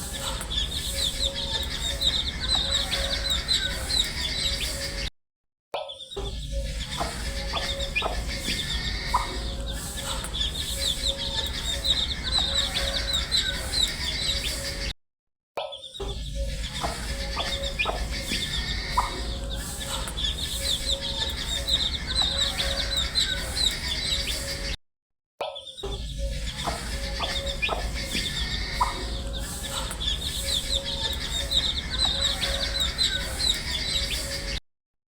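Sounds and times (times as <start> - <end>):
baby chicks peeping: 0.0 - 5.1, 6.4 - 14.9, 16.4 - 24.8, 25.8 - 34.6.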